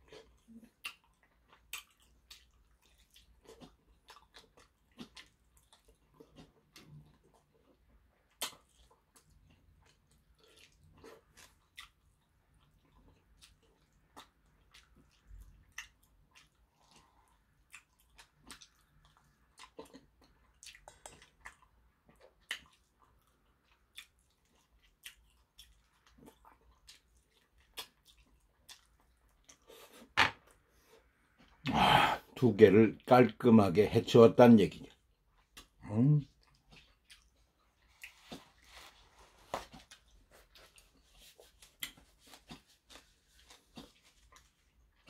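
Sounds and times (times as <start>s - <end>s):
person chewing meat: 0.0s - 32.4s, 34.6s - 45.0s.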